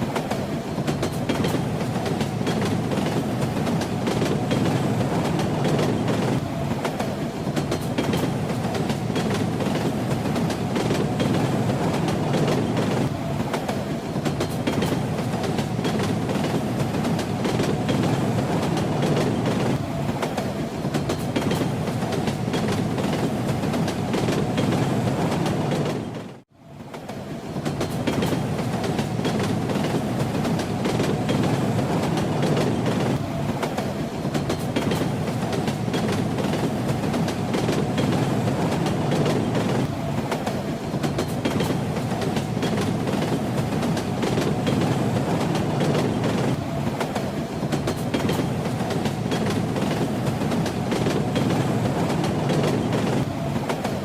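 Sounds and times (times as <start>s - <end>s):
moving train rumble and rattle: 0.0s - 54.0s.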